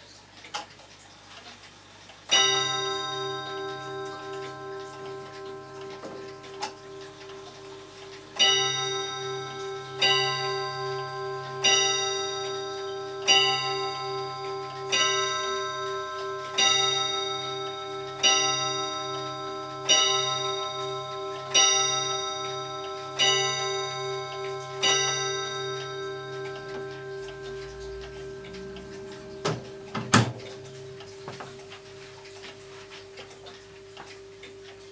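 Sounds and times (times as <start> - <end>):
clock ticking: 0.0 - 34.9
grandfather clock striking: 2.3 - 34.9.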